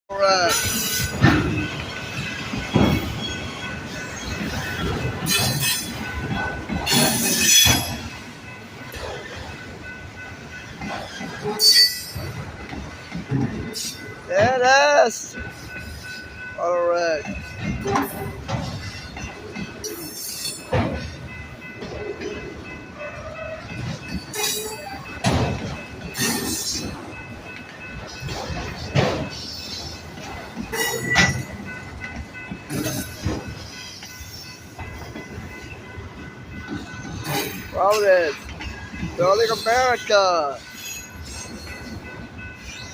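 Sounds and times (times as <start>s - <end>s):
freight train wheels grinding: 0.4s - 16.6s, 17.2s - 42.9s.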